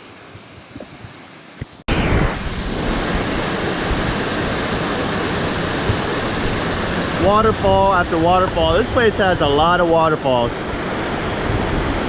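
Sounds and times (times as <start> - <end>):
waterfall rushing: 1.9 - 12.0.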